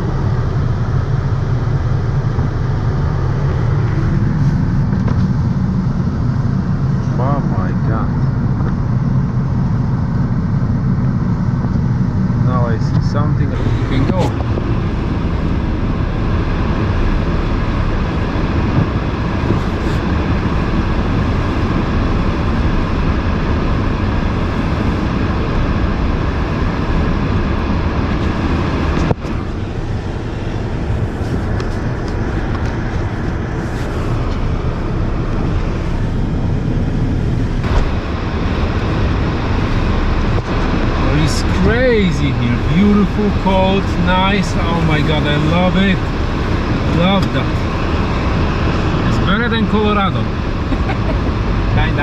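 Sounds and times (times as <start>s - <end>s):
car engine and tyre noise: 0.0s - 52.0s.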